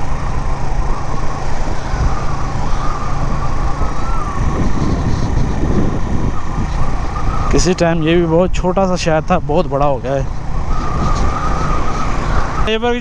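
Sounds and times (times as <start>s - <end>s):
wavering thin tone: 0.0s - 9.0s, 10.6s - 12.7s
motorcycle engine running: 0.0s - 13.0s
wind rumble on microphone: 0.0s - 13.0s.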